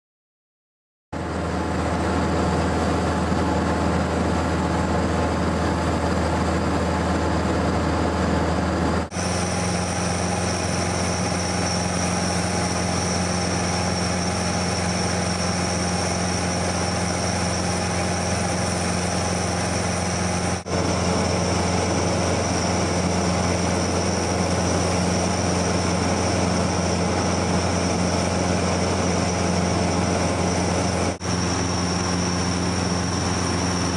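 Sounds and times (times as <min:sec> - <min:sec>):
airplane engine and propeller drone: 0:01.2 - 0:33.9.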